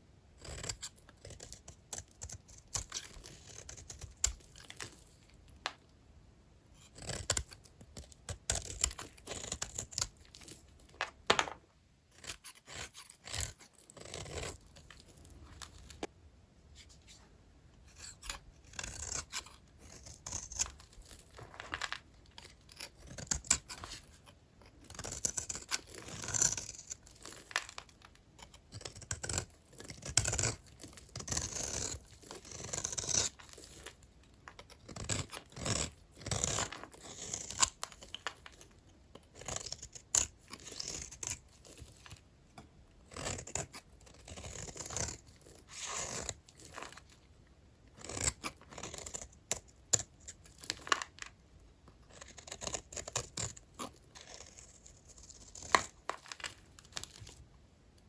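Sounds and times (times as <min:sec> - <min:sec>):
blade cutting dry soap: 0:00.4 - 0:05.8, 0:06.8 - 0:16.1, 0:17.8 - 0:47.2, 0:47.8 - 0:57.4.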